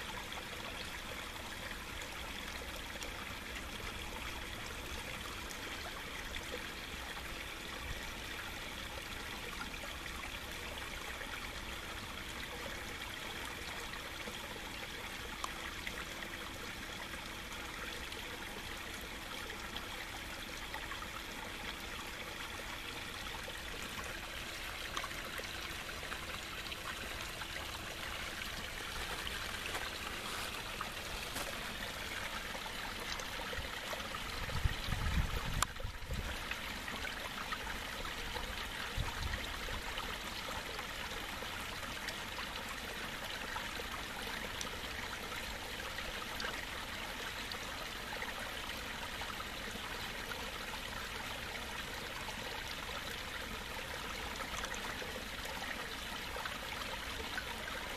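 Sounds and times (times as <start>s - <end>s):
faint steady hum: 0.0s - 57.9s
water trickling into pond: 0.0s - 57.9s.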